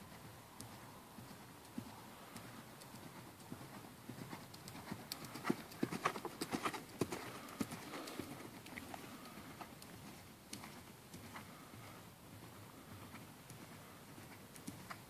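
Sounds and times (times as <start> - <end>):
horse hooves on sand: 0.0 - 15.0.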